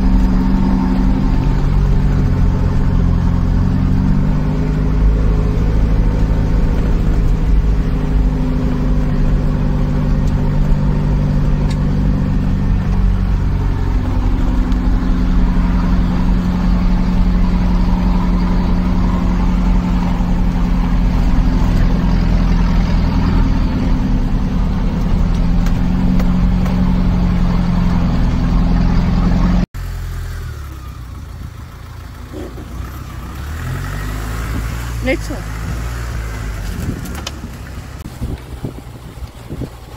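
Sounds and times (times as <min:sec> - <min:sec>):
jeep engine running: 0:00.0 - 0:39.9.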